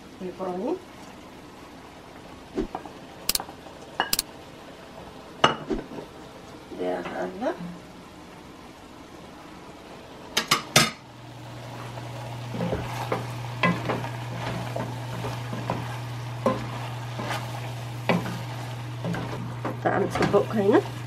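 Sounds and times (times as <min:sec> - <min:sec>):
vegetables sizzling: 0:00.0 - 0:21.0.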